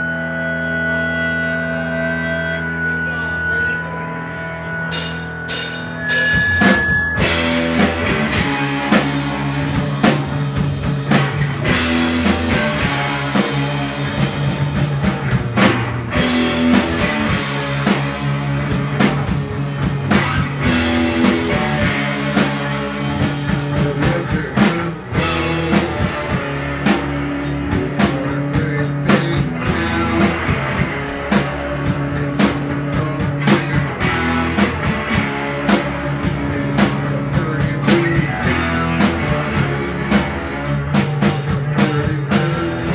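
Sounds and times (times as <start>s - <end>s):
guitar: 0.0s - 42.9s
rock band playing live: 0.0s - 42.9s
drum kit beat: 4.9s - 42.9s.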